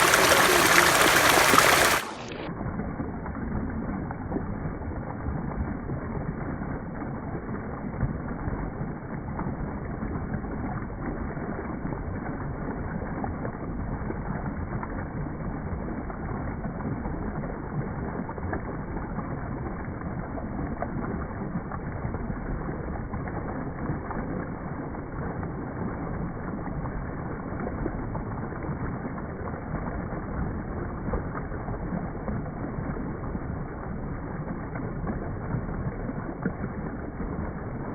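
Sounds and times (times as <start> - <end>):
low muffled water rushing: 0.0 - 37.9.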